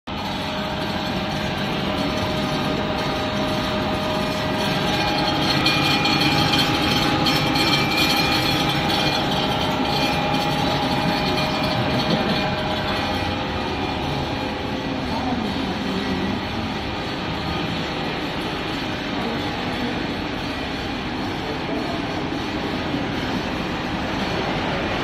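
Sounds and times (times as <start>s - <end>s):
machinery rattle and hum: 0.1s - 25.0s
whining machine tones: 0.1s - 25.0s.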